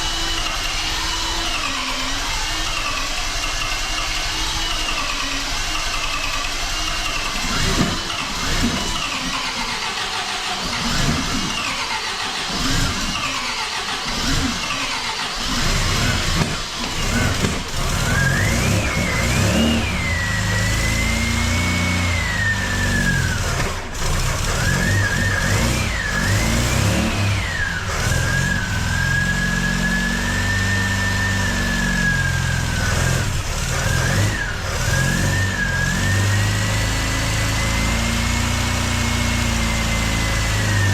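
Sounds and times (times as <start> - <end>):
engine running rough: 0.0 - 40.9
supercharger whine: 0.0 - 40.9.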